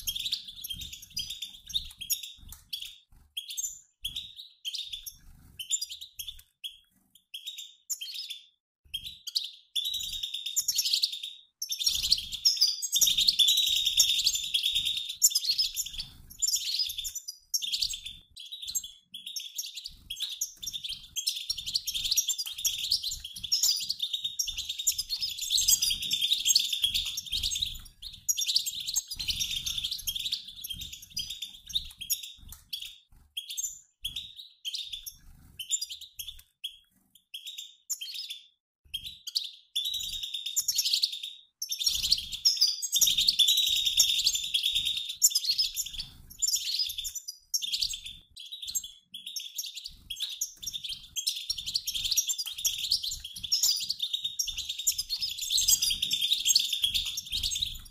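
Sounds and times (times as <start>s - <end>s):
goldfinches twittering: 0.0s - 6.4s, 9.3s - 36.4s, 39.3s - 57.9s.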